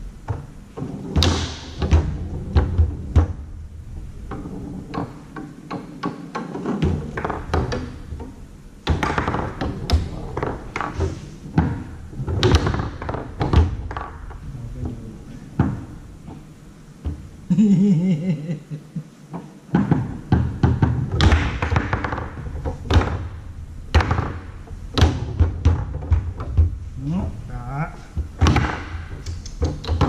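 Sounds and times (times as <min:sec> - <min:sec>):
foosball knocks and cracks: 0:00.2 - 0:03.6, 0:04.2 - 0:14.4, 0:15.6 - 0:17.3, 0:19.3 - 0:26.9, 0:28.1 - 0:30.0.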